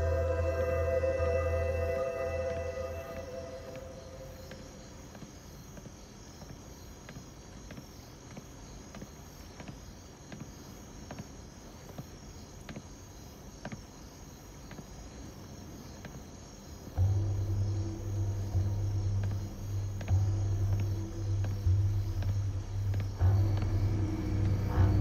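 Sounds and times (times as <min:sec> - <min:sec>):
crickets chirping: 0:00.0 - 0:25.0
footsteps on wooden bridge: 0:02.4 - 0:17.5, 0:18.4 - 0:25.0.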